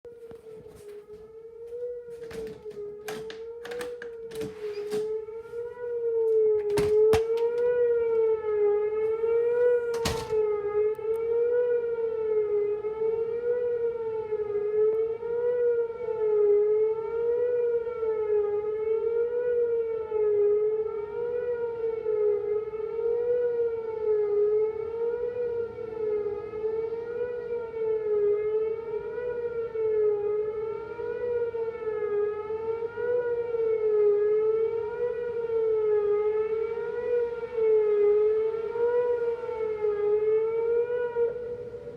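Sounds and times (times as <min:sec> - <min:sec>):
warning siren wavering tone: 0:00.0 - 0:41.9.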